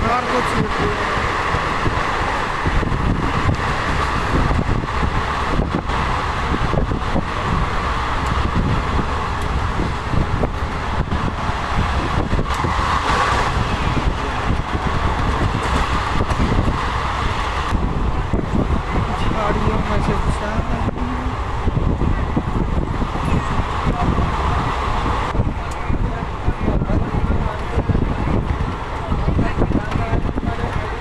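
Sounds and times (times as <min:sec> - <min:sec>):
train carriage rumbling: 0:00.0 - 0:31.0.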